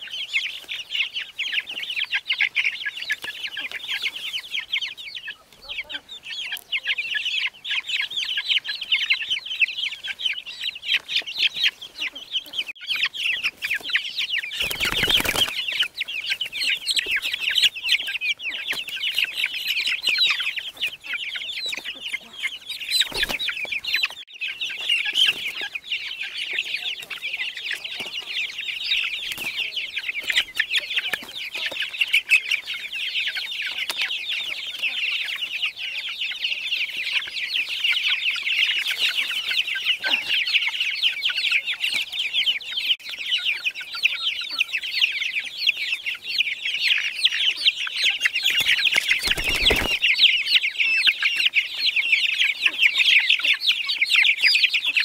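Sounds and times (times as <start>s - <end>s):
chicks cheeping: 0.0s - 55.0s.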